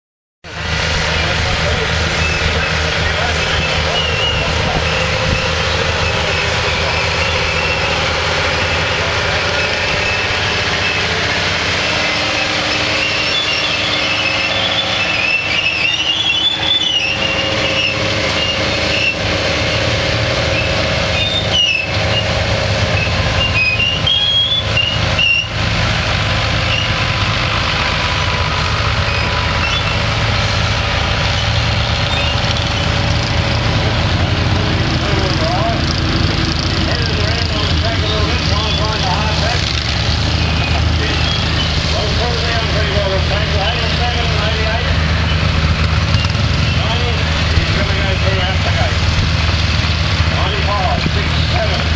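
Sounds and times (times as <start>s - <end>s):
tractor diesel engine under load: 0.4s - 51.9s.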